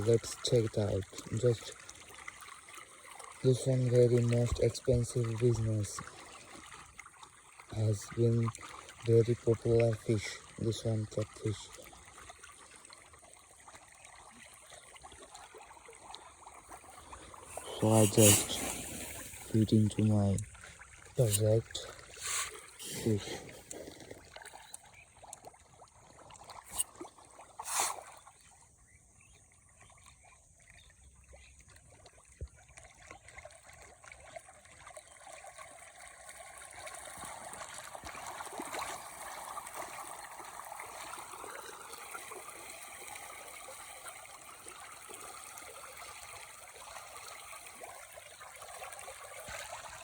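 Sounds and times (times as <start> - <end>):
water trickling: 0.0 - 50.0.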